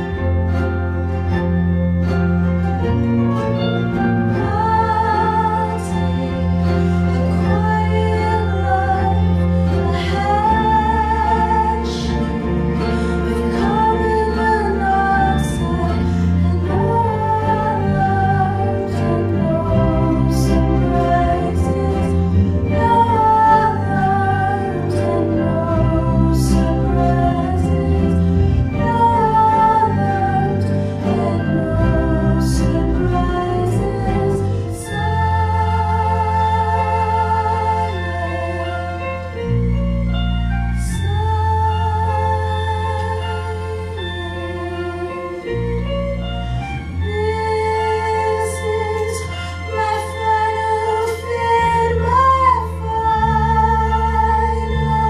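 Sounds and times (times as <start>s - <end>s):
keyboards and guitars playing: 0.0s - 55.0s
woman singing: 3.6s - 39.6s, 40.8s - 45.5s, 46.8s - 55.0s.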